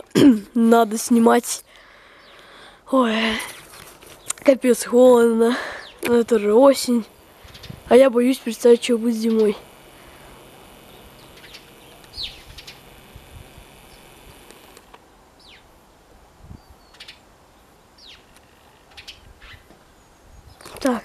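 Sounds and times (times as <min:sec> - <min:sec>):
steady background hiss: 0:00.0 - 0:21.0
birds chirping: 0:01.7 - 0:15.7, 0:16.6 - 0:21.0.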